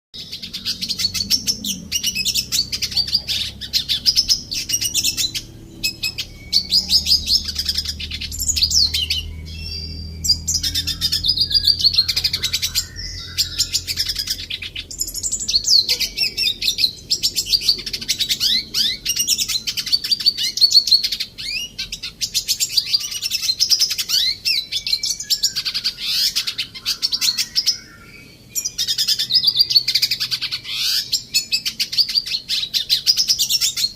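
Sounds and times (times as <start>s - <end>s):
bird singing twittering song: 0.2s - 33.9s.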